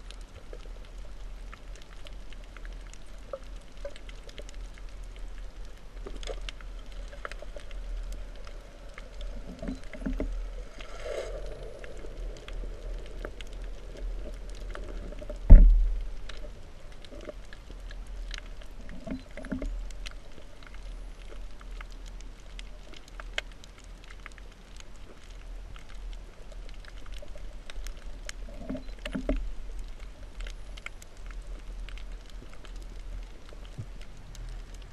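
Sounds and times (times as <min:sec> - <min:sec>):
low rumble of water: 0:00.0 - 0:34.9
sharp clicks and crackles: 0:00.0 - 0:34.9.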